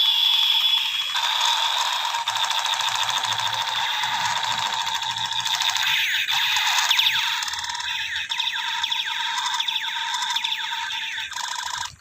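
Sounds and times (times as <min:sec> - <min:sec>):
toy gun firing sound effect: 0:00.0 - 0:12.0.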